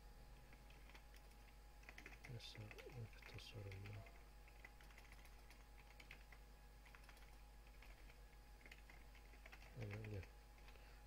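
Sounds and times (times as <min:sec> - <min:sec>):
low steady hum: 0:00.0 - 0:11.0
typing on computer keyboard: 0:00.5 - 0:10.8.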